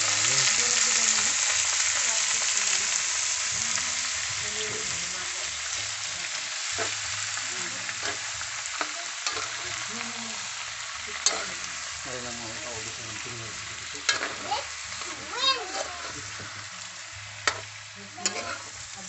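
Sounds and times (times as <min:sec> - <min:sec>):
snails sizzling in hot oil: 0:00.0 - 0:19.0.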